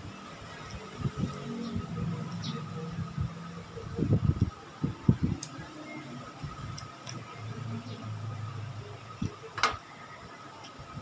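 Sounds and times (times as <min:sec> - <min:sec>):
low hum: 0:00.6 - 0:09.5.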